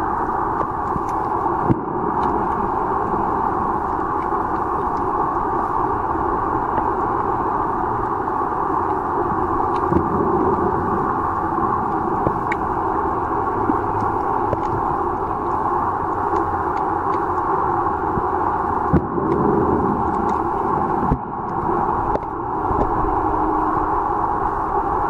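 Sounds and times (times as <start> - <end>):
muffled underwater rushing: 0.0 - 25.0.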